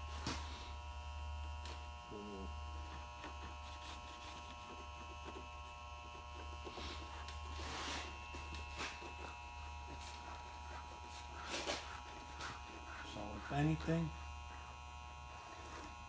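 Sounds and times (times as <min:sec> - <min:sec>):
electrical hum and buzz: 0:00.0 - 0:16.0.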